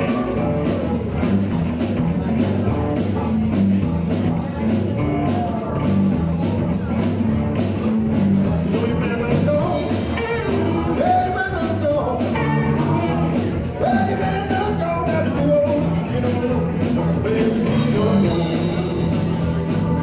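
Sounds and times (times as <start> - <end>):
blues-rock band playing: 0.0 - 20.0
sliding guitar lead line: 0.0 - 20.0.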